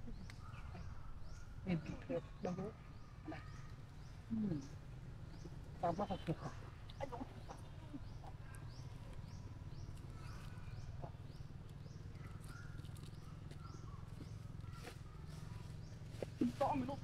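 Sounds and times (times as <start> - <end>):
small animal chirping: 0.1 - 17.0.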